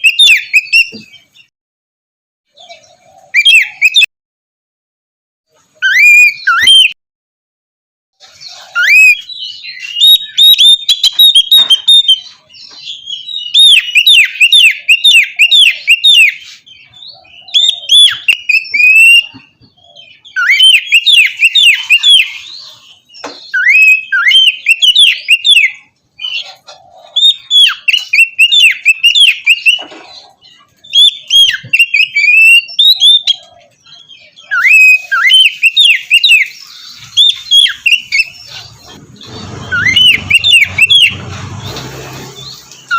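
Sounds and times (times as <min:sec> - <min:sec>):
bird singing whistled notes: 0:00.0 - 0:01.3, 0:02.7 - 0:04.1, 0:05.8 - 0:07.0, 0:08.5 - 0:26.4, 0:27.1 - 0:29.8, 0:30.8 - 0:41.8.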